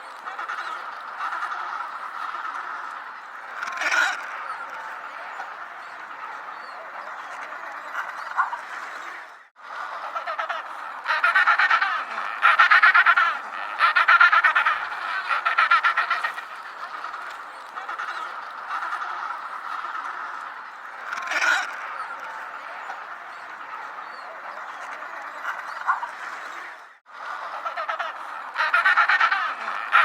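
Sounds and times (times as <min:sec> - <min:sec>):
penguins calling: 0:00.0 - 0:30.0.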